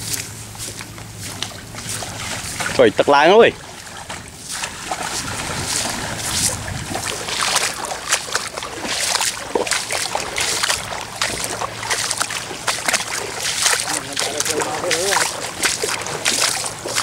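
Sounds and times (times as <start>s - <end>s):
footsteps wading through water: 0.0s - 17.0s.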